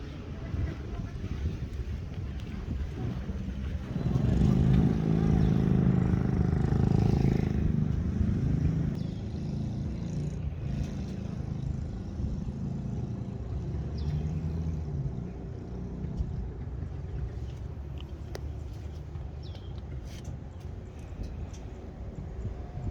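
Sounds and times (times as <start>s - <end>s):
motor vehicle engine running: 0.0s - 22.9s.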